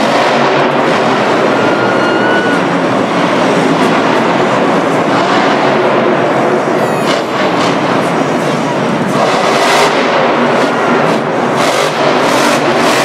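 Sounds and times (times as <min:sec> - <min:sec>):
monster truck engine running: 0:00.0 - 0:13.0.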